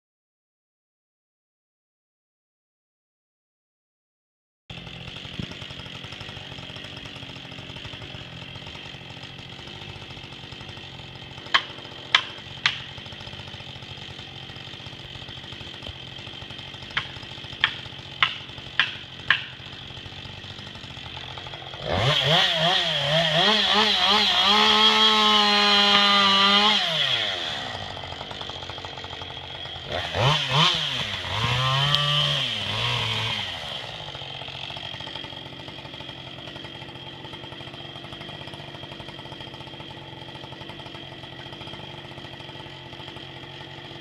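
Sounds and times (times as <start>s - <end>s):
chainsaw idling and revving: 4.7s - 44.0s.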